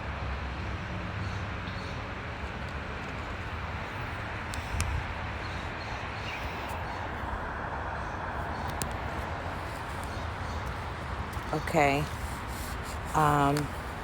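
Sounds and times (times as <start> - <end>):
background rumble and hiss: 2.4 - 14.0.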